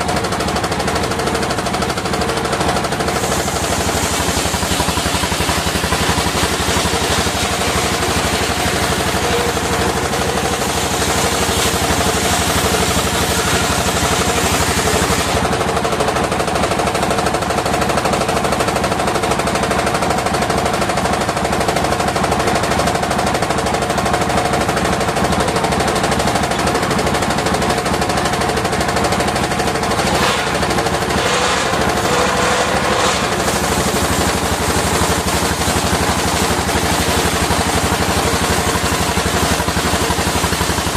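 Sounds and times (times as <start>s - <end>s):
circular sawmill running: 0.0s - 40.9s.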